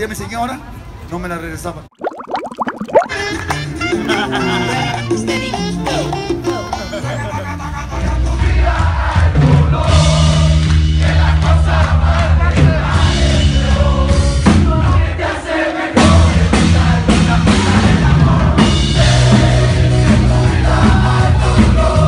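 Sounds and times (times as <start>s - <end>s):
crowd noise: 2.8s - 22.0s.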